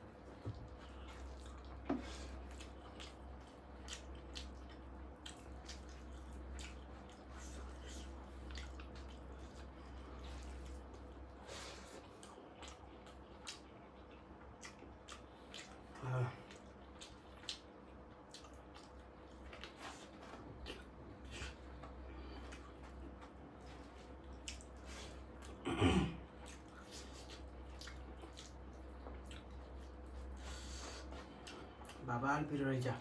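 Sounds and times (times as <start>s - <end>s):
low steady hum: 0.0s - 33.0s
wet chewing: 0.2s - 25.6s, 26.4s - 32.0s.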